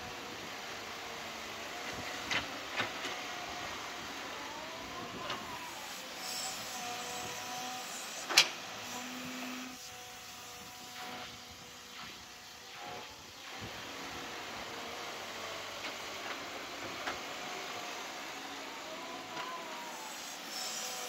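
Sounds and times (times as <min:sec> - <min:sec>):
hydraulic whine: 0:01.3 - 0:21.0.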